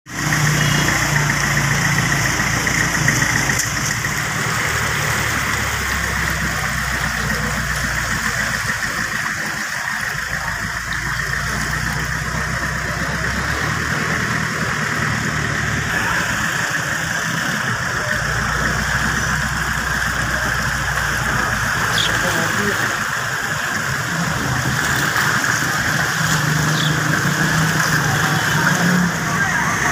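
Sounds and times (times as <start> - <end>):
vehicle engine running: 0.1 - 29.9.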